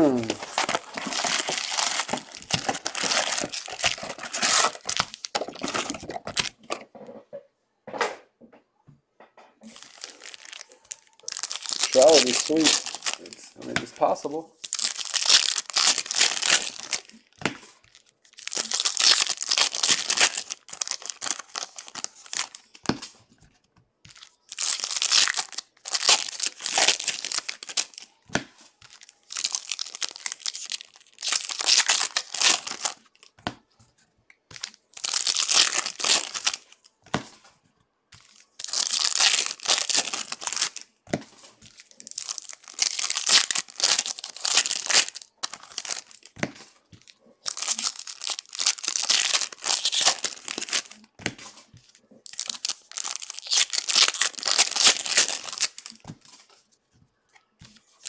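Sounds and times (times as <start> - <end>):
wrappers torn and crinkled: 0.0 - 6.6, 9.7 - 22.9, 24.1 - 28.2, 28.8 - 33.4, 34.6 - 36.9, 38.2 - 41.0, 41.6 - 46.4, 47.0 - 51.1, 52.0 - 56.5.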